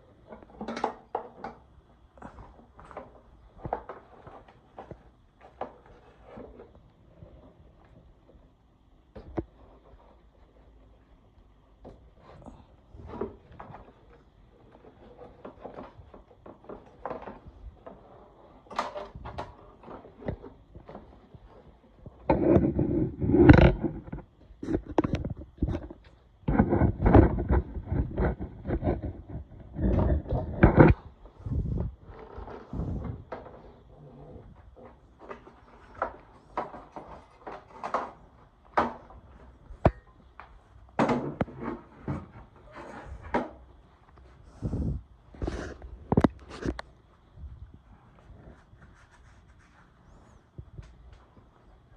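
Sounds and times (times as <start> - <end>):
parts and tools knocking and scraping: 0.1 - 7.5, 11.8 - 46.8.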